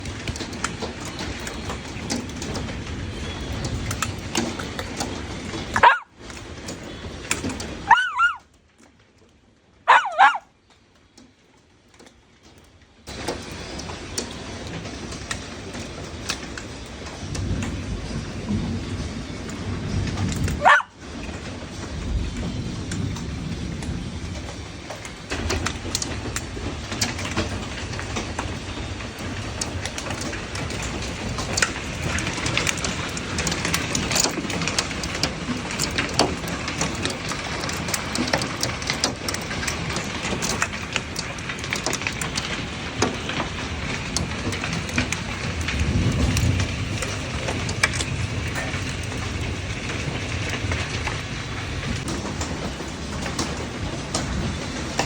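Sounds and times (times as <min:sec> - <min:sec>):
wind buffeting microphone: 0:00.0 - 0:08.4, 0:13.2 - 0:55.0
heavy rain pouring: 0:00.0 - 0:55.0
sharp raindrops tapping: 0:00.0 - 0:55.0.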